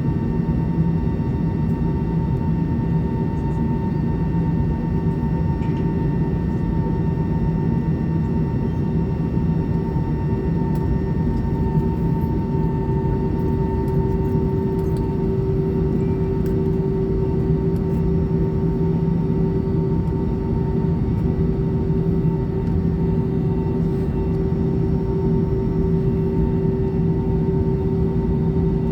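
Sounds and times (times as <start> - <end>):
airliner cabin engine drone: 0.0 - 28.9
constant hum tones: 0.0 - 28.9.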